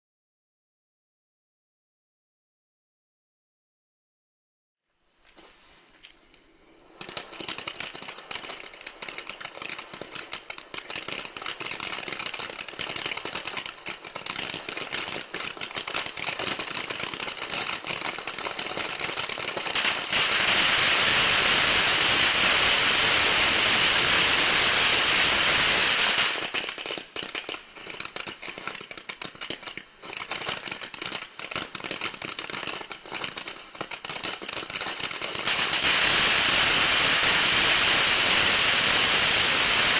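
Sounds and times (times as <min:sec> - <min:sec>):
firework fountain crackling: 0:05.1 - 0:39.9
firework fountain hissing: 0:05.1 - 0:39.9.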